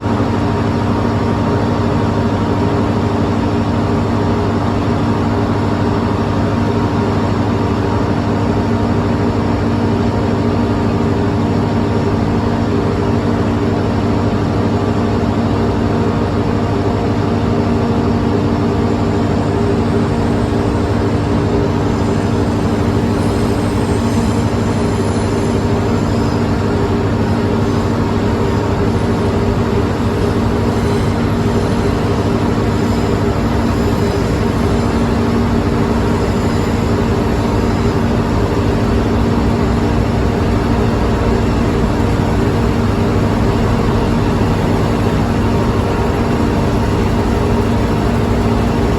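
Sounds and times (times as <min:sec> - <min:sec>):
diesel locomotive engine running: 0:00.0 - 0:48.9.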